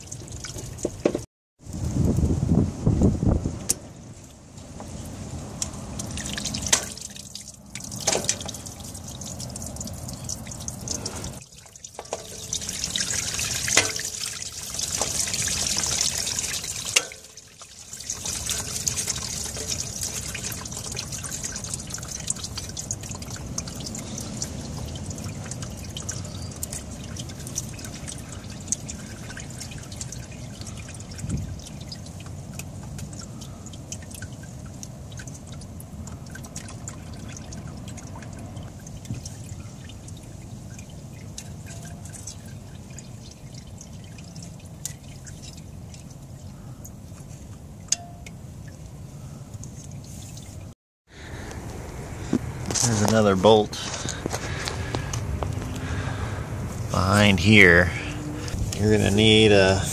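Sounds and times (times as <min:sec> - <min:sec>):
liquid trickling and pouring: 0:00.0 - 0:02.0, 0:04.1 - 0:59.9.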